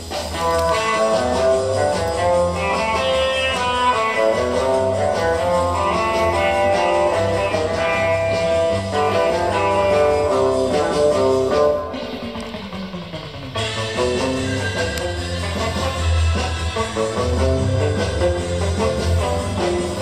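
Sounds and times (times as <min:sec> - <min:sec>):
guitar music from record: 0:00.0 - 0:20.0.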